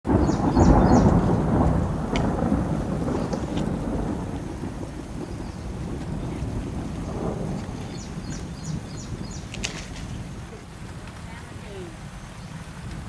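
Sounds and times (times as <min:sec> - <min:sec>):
thunder rolling: 0:00.1 - 0:13.0.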